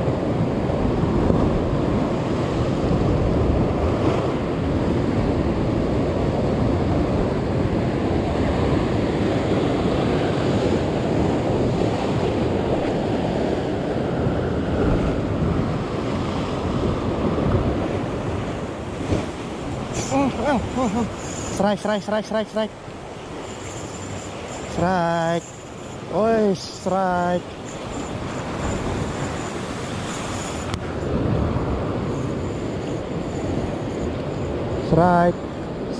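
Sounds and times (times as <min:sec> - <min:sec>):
wind rumbling on microphone: 0:00.0 - 0:21.7, 0:27.4 - 0:35.9
sea surf washing on shore: 0:00.0 - 0:35.9.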